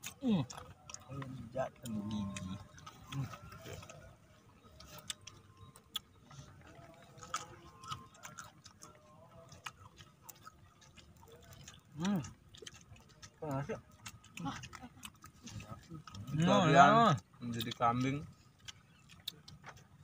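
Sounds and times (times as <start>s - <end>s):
small mouth noises: 0.0s - 16.3s
people chewing raw vegetables: 0.0s - 20.0s.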